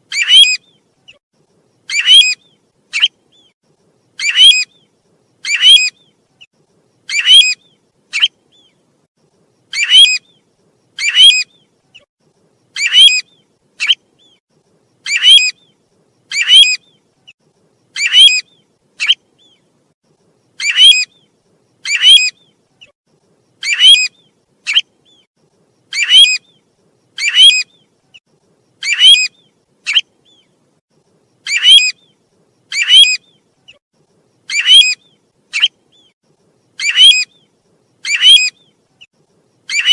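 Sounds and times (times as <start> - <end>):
recorded bird call notes: 0.0 - 1.2, 1.8 - 3.5, 4.2 - 8.8, 9.7 - 12.1, 12.7 - 14.4, 15.0 - 17.3, 17.9 - 19.7, 20.6 - 22.9, 23.5 - 28.2, 28.8 - 30.6, 31.4 - 33.8, 34.4 - 39.9.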